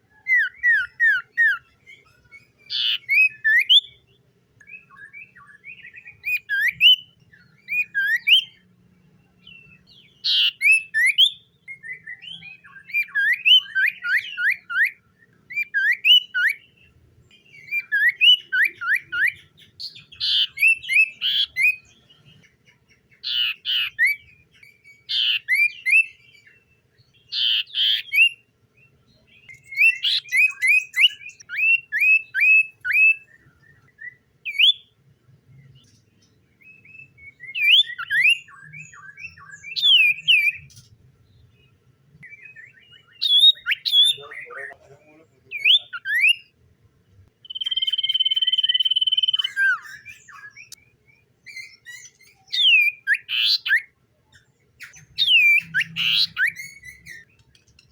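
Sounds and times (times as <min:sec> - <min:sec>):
bird harsh calls: 0:00.0 - 0:08.7, 0:09.5 - 0:35.0, 0:36.6 - 0:46.6, 0:47.4 - 0:57.9
bird whistled song: 0:00.0 - 0:08.7, 0:09.4 - 0:35.0, 0:35.6 - 0:44.7, 0:45.5 - 0:46.6, 0:47.4 - 0:57.9.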